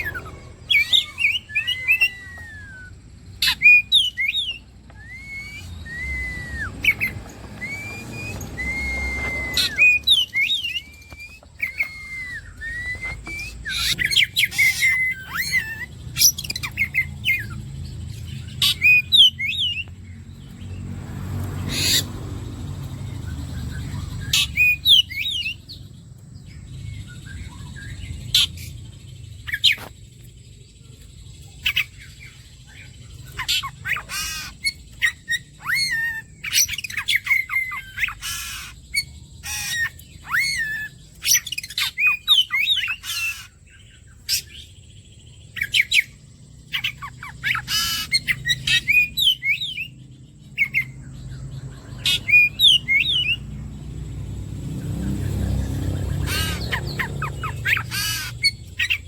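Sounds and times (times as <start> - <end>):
bird singing whistled notes: 0.0 - 20.9, 21.6 - 59.0
bird sharp chips and calls: 0.0 - 59.0.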